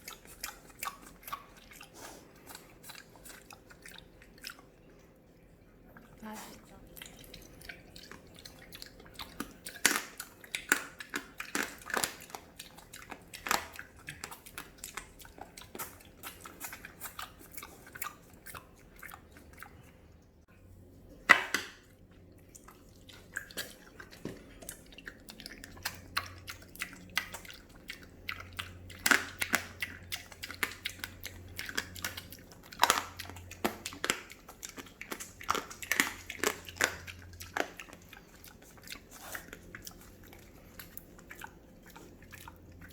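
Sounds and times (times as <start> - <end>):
pig chewing: 0.0 - 42.9.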